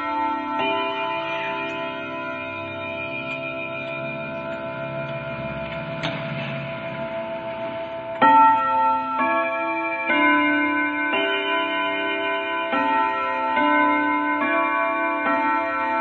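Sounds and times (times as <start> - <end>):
clock chiming a tune: 0.0 - 16.0.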